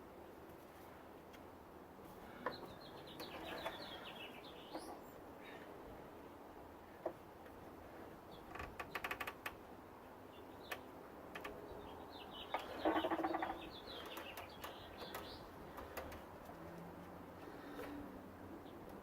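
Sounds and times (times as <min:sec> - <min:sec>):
birds chirping faintly: 0:01.2 - 0:19.0.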